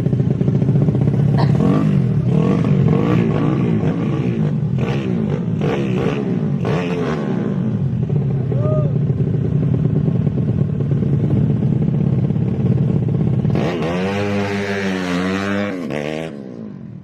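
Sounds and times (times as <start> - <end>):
small motorcycle engine revving: 0.0 - 8.4, 9.0 - 17.0.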